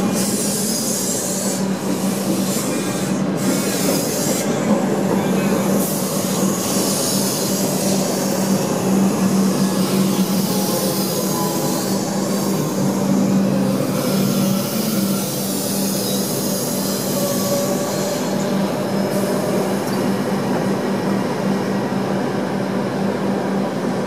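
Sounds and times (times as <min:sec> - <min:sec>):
electric train passing: 0:00.0 - 0:24.0.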